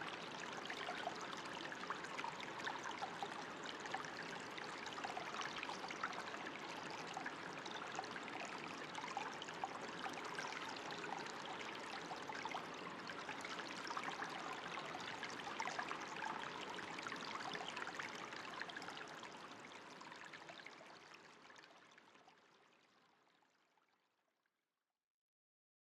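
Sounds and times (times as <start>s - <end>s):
stream water trickling: 0.0s - 24.0s.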